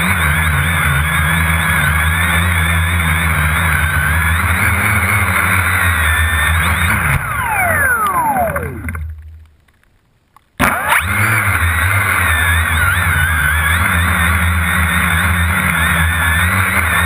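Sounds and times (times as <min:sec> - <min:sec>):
drone motors whining: 0:00.0 - 0:09.5, 0:10.6 - 0:17.0.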